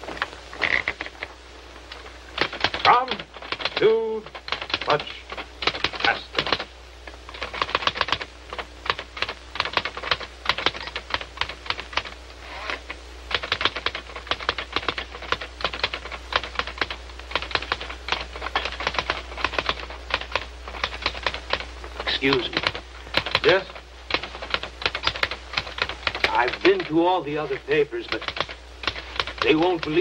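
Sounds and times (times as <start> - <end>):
steady low hum: 0.0 - 30.0
typewriter keystrokes: 1.9 - 6.7, 7.3 - 12.2, 13.3 - 30.0.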